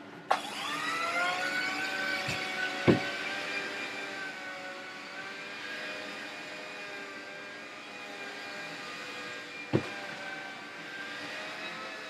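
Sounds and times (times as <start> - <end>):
floor scrubber motor whining: 0.3 - 12.0.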